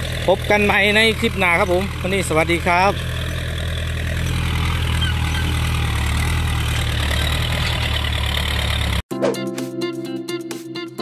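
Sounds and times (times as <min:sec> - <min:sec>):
tractor diesel engine running: 0:00.0 - 0:09.0.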